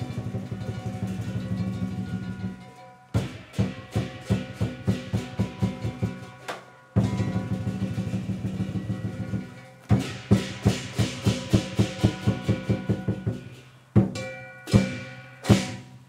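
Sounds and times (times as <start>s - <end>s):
fast drum roll: 0.0s - 6.4s, 7.0s - 16.0s
cymbals: 0.0s - 16.0s
drum beat: 0.0s - 16.0s.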